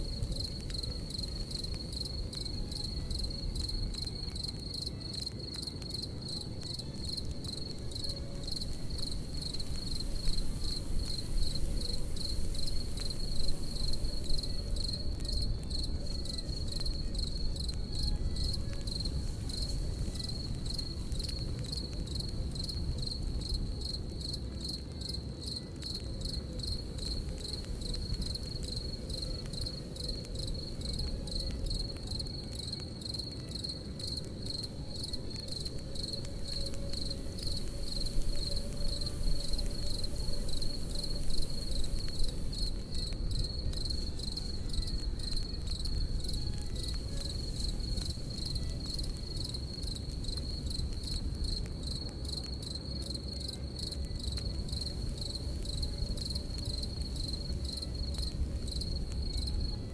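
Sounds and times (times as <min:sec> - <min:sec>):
campfire pops: 0:00.0 - 0:59.9
campfire rumble: 0:00.0 - 0:59.9
crickets chirping: 0:00.0 - 0:59.9.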